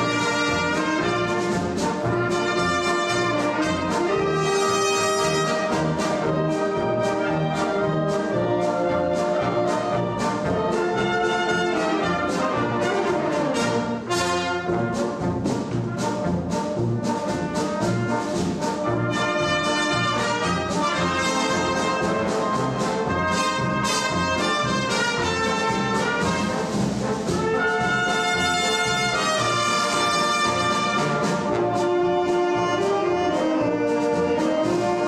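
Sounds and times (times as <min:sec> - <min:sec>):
wind band playing: 0:00.0 - 0:35.0.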